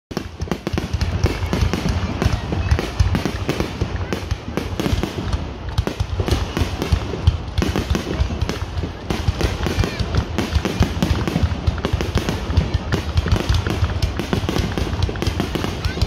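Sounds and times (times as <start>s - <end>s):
fireworks booming and crackling: 0.1s - 16.0s.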